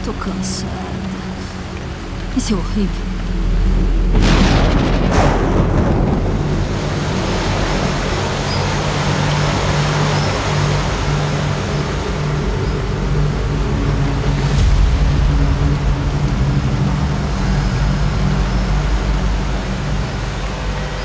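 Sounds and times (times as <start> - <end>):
heavy rain pouring: 0.0 - 21.0
low steady drone: 0.0 - 21.0.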